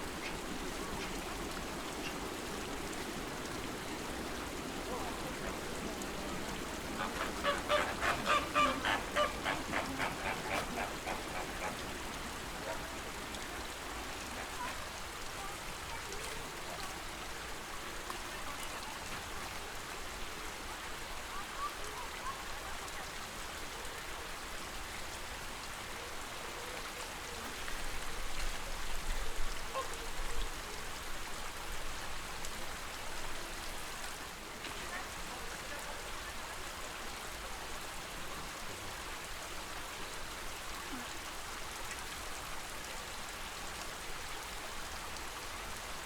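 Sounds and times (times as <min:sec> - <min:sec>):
water splashing and trickling: 0:00.0 - 0:46.0.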